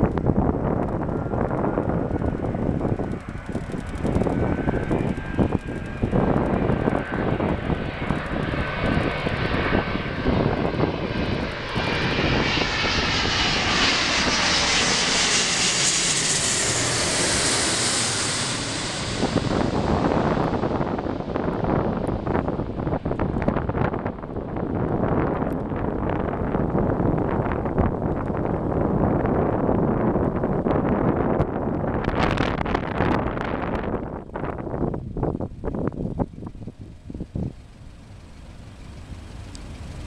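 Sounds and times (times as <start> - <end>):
wind on microphone: 0.0 - 38.0
jet airliner passing overhead: 0.0 - 40.0.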